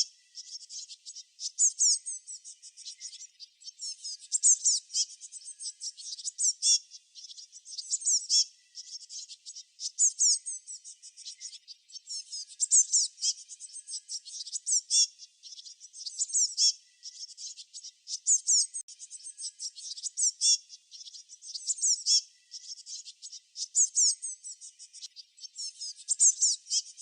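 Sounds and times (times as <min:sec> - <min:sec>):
small songbirds singing: 0:00.0 - 0:27.0.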